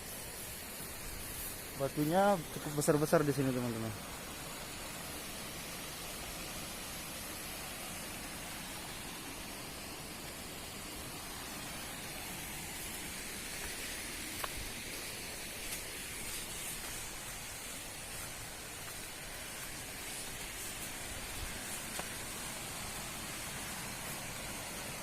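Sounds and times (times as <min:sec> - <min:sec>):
waterfall rushing: 0:00.2 - 0:25.0.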